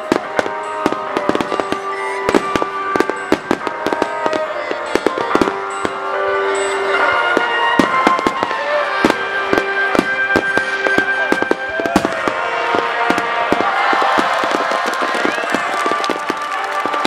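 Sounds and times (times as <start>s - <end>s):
fireworks bangs and crackling: 0.0s - 17.0s
music playing: 0.0s - 17.0s.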